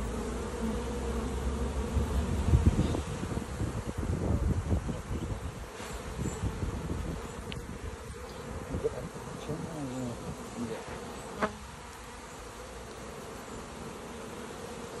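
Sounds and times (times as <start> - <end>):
bee swarm buzzing: 0.0 - 15.0
single bees passing close: 0.0 - 15.0.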